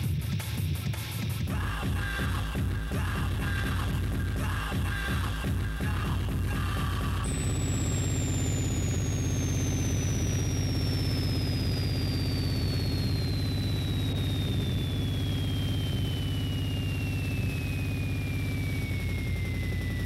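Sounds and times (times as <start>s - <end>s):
high sine tone falling: 1.5s - 20.0s
low buzzing drone: 1.5s - 20.0s.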